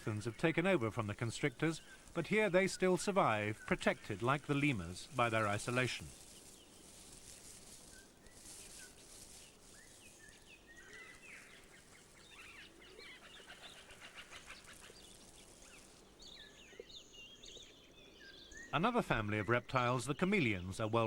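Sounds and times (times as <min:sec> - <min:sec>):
steady high hiss: 0:00.0 - 0:17.2.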